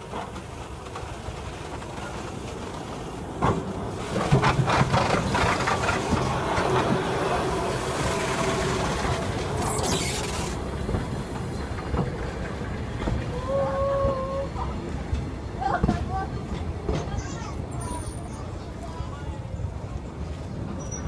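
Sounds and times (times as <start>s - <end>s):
train clanks and knocks: 0.0s - 9.6s, 10.6s - 18.9s
steam train rumbling: 0.0s - 21.0s.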